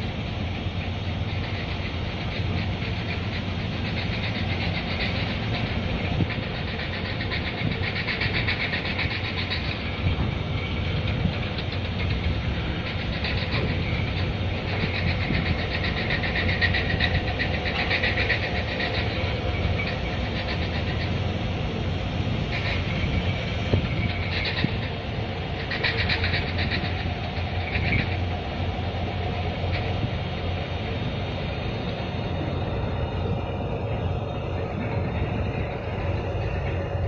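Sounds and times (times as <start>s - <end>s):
engine running with rattling clatter: 0.0s - 37.0s.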